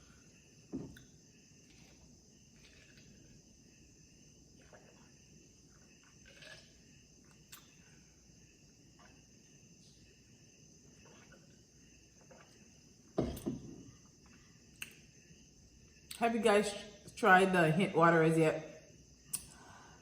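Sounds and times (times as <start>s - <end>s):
insect chirring: 0.0s - 17.2s.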